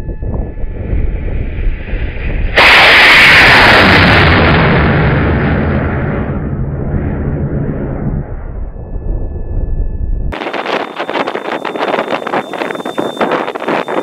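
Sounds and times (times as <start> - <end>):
rocket motor roaring: 0.1 - 14.0.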